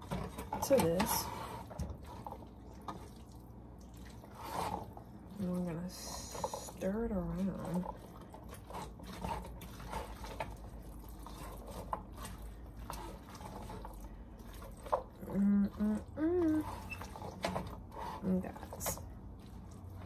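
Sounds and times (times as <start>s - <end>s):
spoon stirring wet food: 0.0s - 20.0s.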